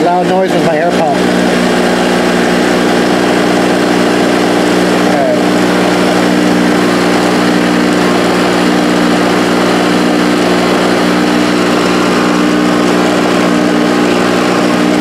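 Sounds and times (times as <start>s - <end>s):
air pump humming: 0.0s - 15.0s
spindle milling wood: 0.0s - 15.0s.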